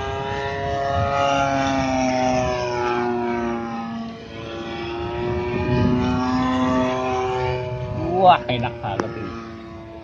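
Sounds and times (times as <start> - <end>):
model airplane engine in flight: 0.0 - 10.0.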